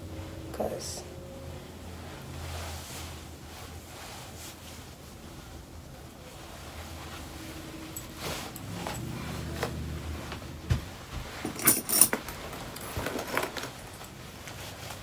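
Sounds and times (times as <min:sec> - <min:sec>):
clothing rustling: 0:01.2 - 0:15.0.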